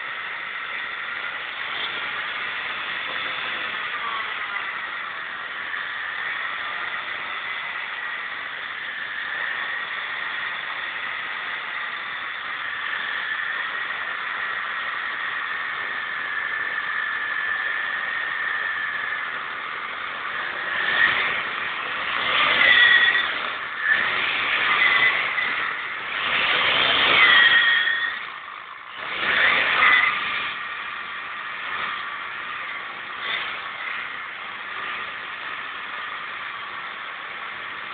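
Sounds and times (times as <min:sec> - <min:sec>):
motorcycle engine revving: 0:00.0 - 0:37.9
motorcycle tyre squealing: 0:00.0 - 0:37.9.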